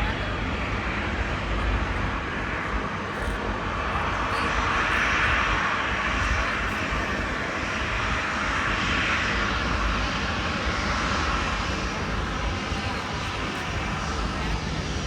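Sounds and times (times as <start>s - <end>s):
jet engine rushing: 0.1s - 15.0s.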